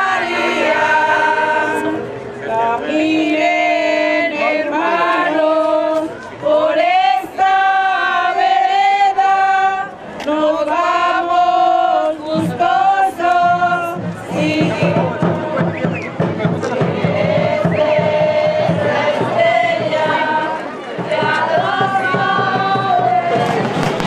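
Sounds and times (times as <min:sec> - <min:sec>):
women singing a hymn: 0:00.0 - 0:24.0.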